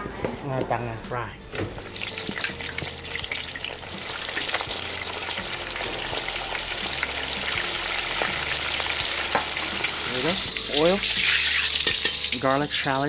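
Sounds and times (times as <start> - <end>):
hot oil crackling and sizzling: 1.6 - 13.0.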